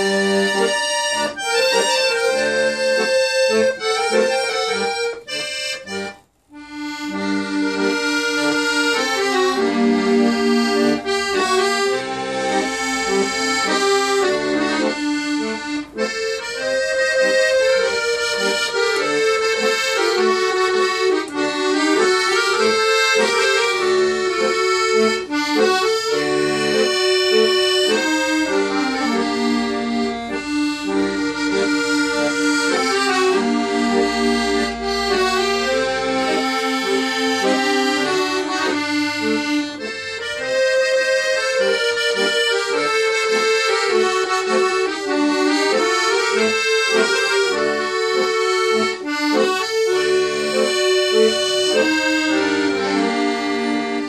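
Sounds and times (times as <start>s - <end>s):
accordions playing a tune: 0.0s - 54.0s.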